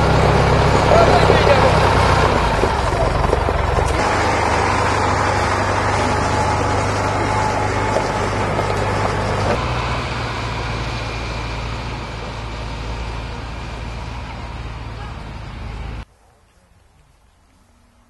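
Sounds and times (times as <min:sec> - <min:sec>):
tractor diesel engine running: 0:00.0 - 0:16.1.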